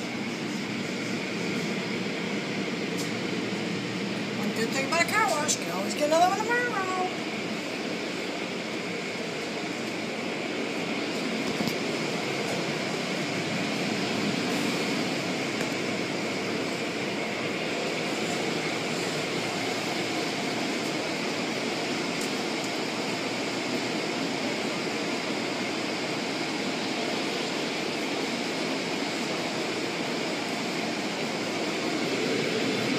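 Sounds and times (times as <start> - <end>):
car wash machinery rushing: 0.0 - 32.9.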